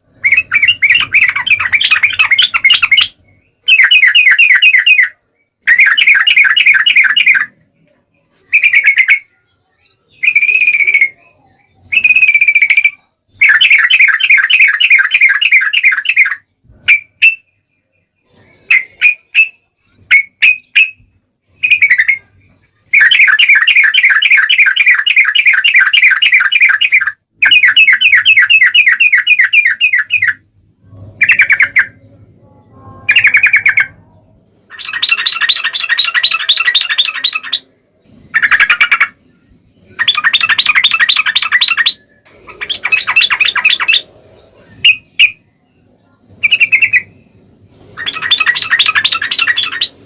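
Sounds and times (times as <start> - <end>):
bulbul chattering: 0.1 - 7.6, 8.4 - 17.5, 18.3 - 45.5, 46.2 - 50.0.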